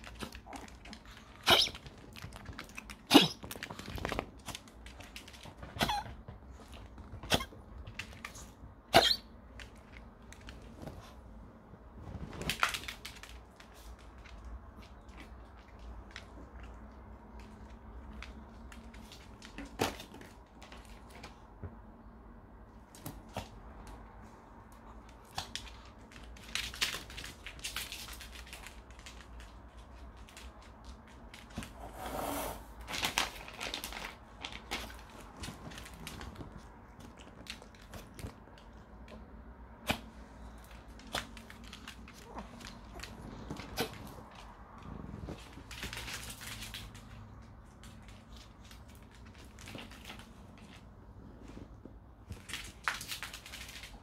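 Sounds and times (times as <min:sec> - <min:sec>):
dog claws clicking on floor: 0:00.0 - 0:08.7, 0:12.0 - 0:21.4, 0:22.8 - 0:31.8, 0:32.8 - 0:54.0.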